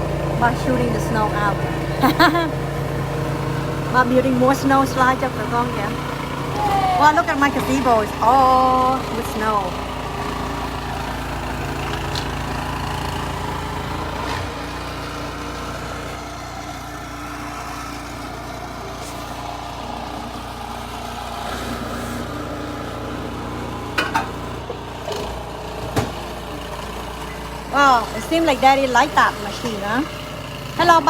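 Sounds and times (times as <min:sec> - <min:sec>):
snowblower engine running: 0:00.0 - 0:31.0.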